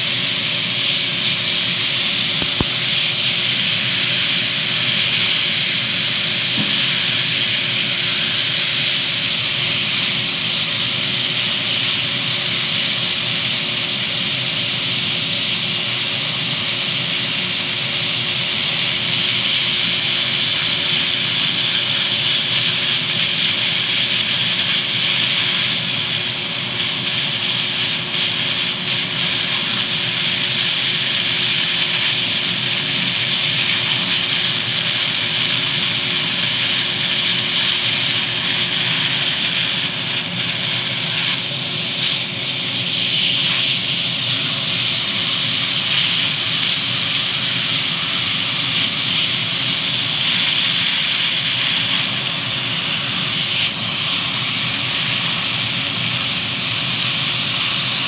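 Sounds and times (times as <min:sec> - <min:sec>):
dental suction hissing: 0:00.0 - 0:10.6, 0:18.9 - 0:58.0
dental drill whining: 0:00.0 - 0:58.0.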